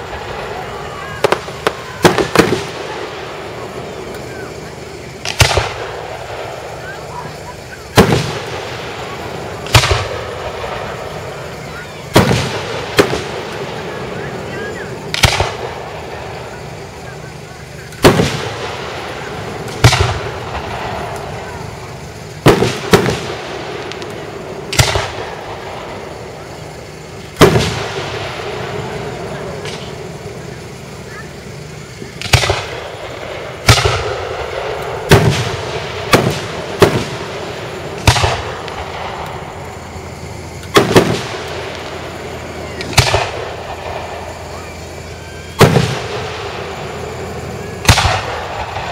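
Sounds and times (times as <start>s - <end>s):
fireworks booming: 0.0s - 48.9s
murmur of crowd voices: 0.0s - 48.9s.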